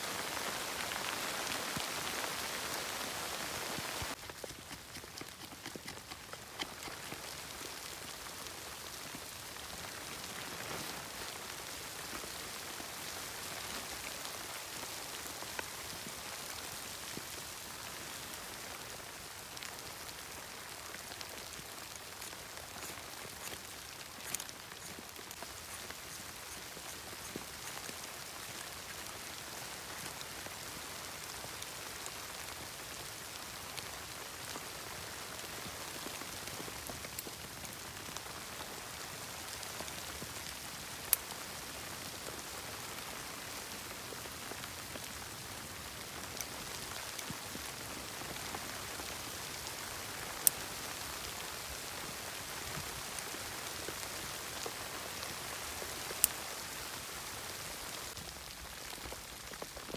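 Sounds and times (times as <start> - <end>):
rain pattering on a surface: 0.0 - 4.2, 7.2 - 59.9.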